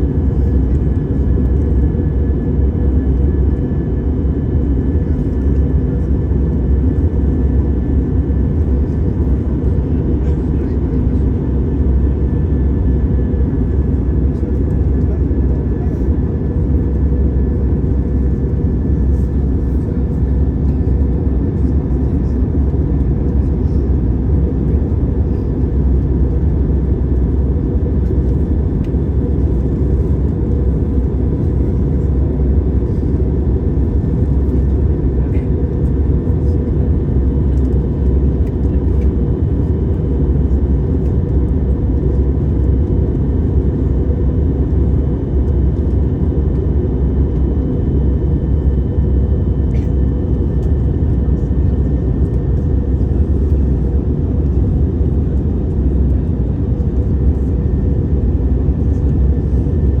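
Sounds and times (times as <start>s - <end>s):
airliner engine drone: 0.0s - 60.0s.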